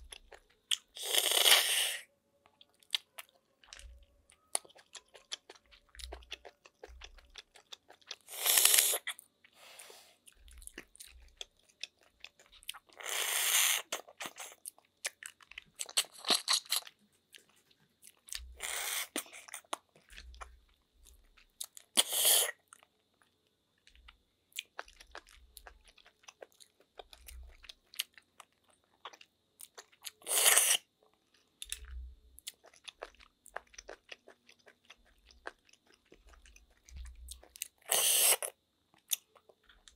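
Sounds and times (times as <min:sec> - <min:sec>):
slurping snails from shells: 0:00.1 - 0:22.9, 0:24.6 - 0:39.9
wet chewing: 0:02.4 - 0:39.9.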